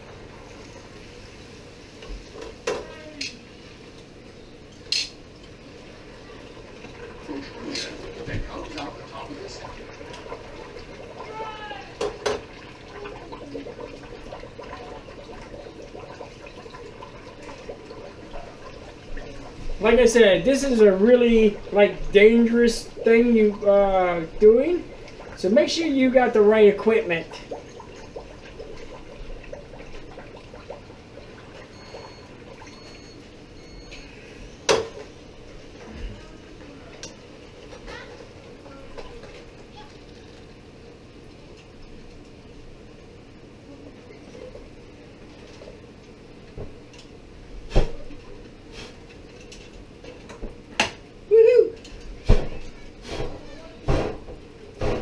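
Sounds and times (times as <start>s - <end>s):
oil sizzling and bubbling: 0.0s - 55.0s.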